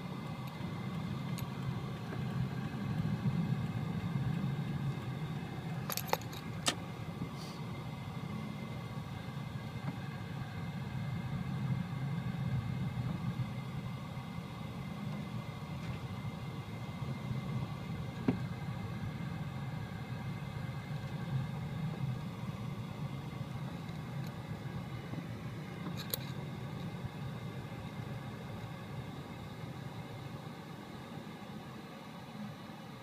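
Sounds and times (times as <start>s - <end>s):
car engine and tyres rumble: 0.0s - 33.0s.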